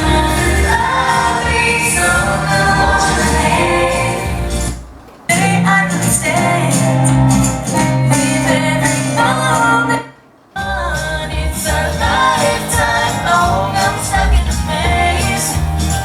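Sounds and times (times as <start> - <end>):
pop song with woman singing: 0.0 - 16.0.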